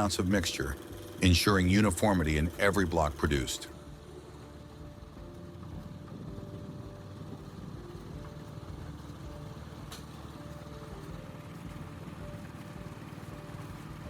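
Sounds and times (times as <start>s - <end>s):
factory machinery rumbling: 0.0s - 14.0s
quiet background music: 0.0s - 14.0s.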